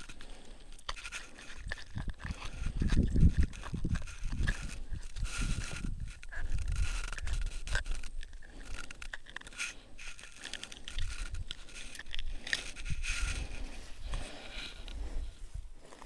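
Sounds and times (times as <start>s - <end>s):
scraping and rustling: 0.0s - 16.0s.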